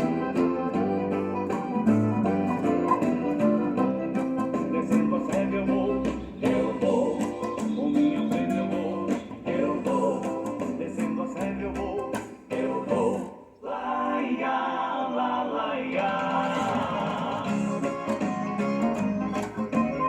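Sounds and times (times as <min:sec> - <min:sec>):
acoustic bass guitar: 0:00.0 - 0:13.4, 0:16.1 - 0:20.0
plucked guitar: 0:00.0 - 0:13.4, 0:16.2 - 0:20.0.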